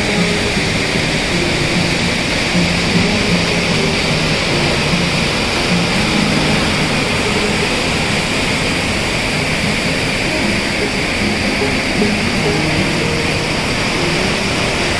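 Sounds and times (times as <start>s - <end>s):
waterfall roaring: 0.0s - 14.9s.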